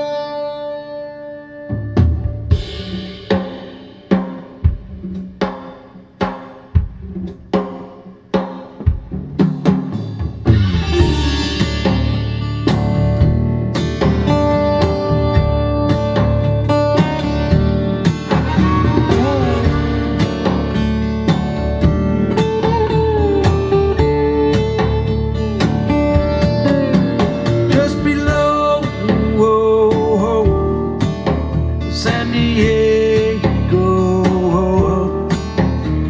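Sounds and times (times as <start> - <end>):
guitar-led instrumental music: 0.0 - 36.0.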